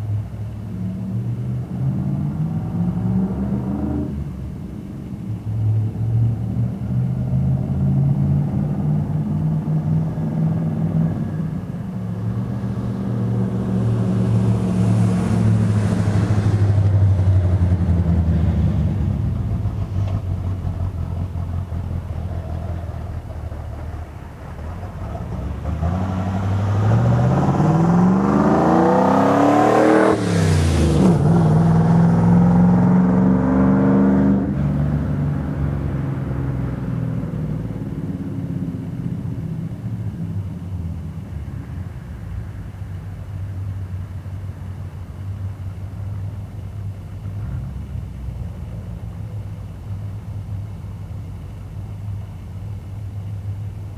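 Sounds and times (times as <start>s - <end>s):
truck engine running and revving: 0.0s - 53.9s.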